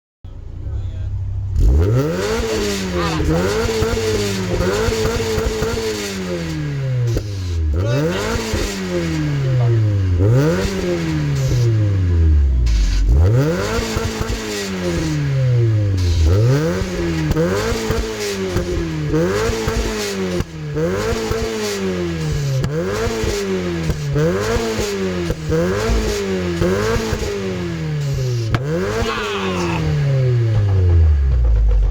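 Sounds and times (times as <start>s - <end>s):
car engine revving: 0.3s - 31.9s.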